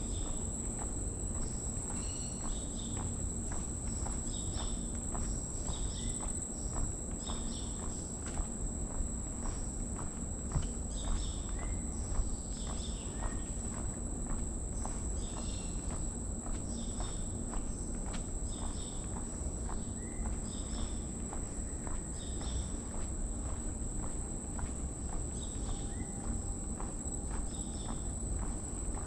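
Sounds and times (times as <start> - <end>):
footsteps on boardwalk: 0.0 - 29.0
high insect trill: 0.0 - 29.0.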